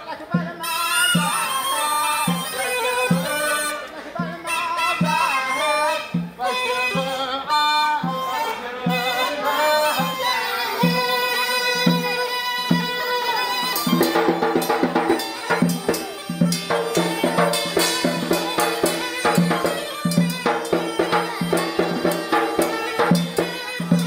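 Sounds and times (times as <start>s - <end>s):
reed pipe melody: 0.6s - 24.0s.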